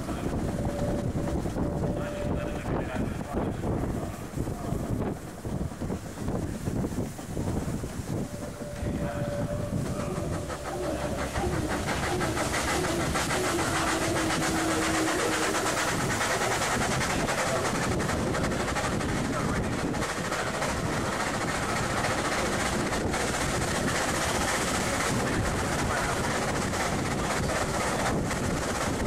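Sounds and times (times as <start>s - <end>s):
rushing air: 0.0s - 29.0s
steam engine clatter: 0.0s - 29.0s
steam hissing: 0.0s - 29.0s.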